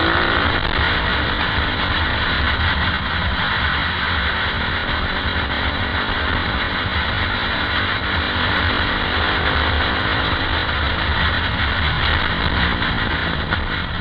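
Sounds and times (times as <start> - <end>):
motorcycle engine running: 0.0 - 14.0
wind rush over microphone: 0.0 - 14.0.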